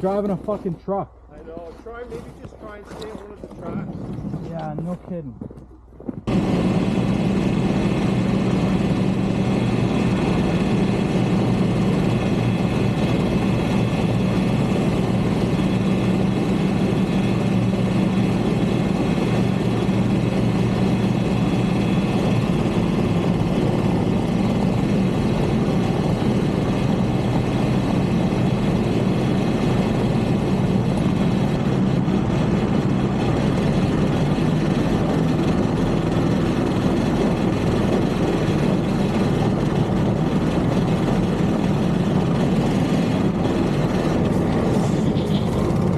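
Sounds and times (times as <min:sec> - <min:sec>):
off-road vehicle engine: 0:00.0 - 0:45.9.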